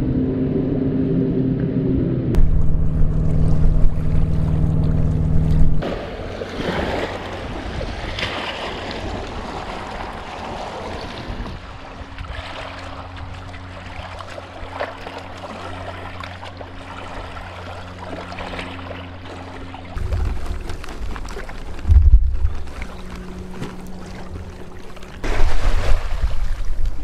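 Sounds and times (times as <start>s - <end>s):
steady low hum: 0.0s - 8.0s, 9.0s - 27.0s
small waves lapping at shore: 2.4s - 27.0s
water splashing: 2.4s - 27.0s.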